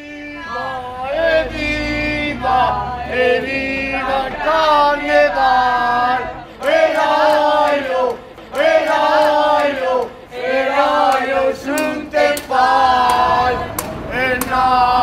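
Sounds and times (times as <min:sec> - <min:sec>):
group singing chant-like song: 0:00.0 - 0:15.0.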